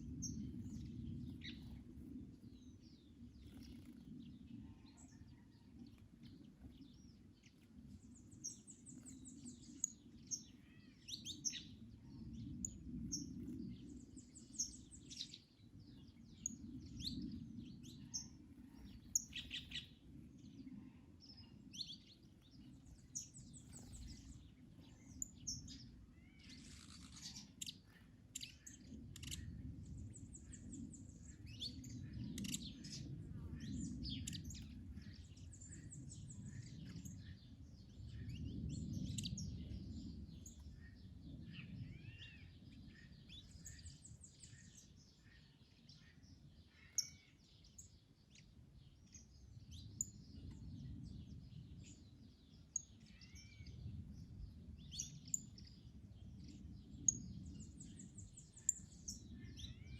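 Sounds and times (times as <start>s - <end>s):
songbirds chirping and trilling: 0.0s - 59.9s
wind on microphone: 0.0s - 59.9s.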